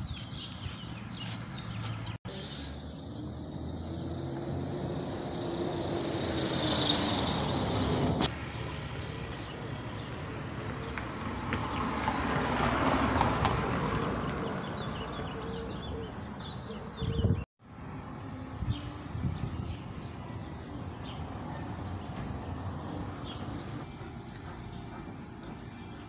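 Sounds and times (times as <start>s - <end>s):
birds chirping: 0.0s - 4.5s, 5.6s - 26.0s
passing vehicles: 0.0s - 26.0s.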